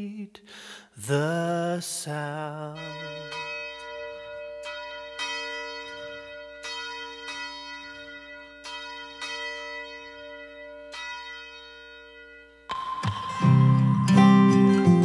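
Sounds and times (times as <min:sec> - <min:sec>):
church bell tolling: 0:02.7 - 0:15.0.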